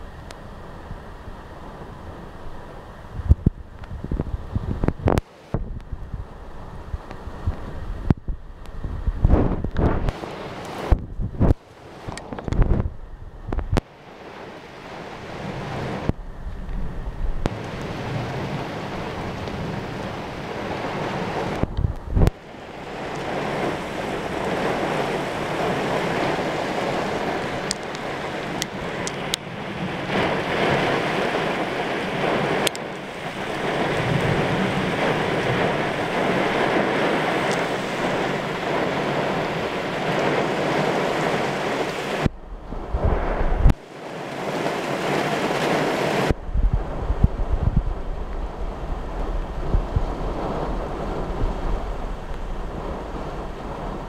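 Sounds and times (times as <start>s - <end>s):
heavy rain: 0.0s - 54.0s
wind gusts buffeting microphone: 0.0s - 54.0s.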